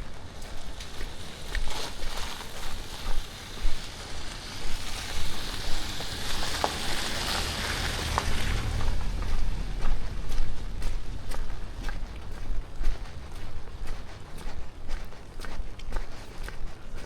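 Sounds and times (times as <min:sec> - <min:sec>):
footsteps on trail: 0:00.0 - 0:17.0.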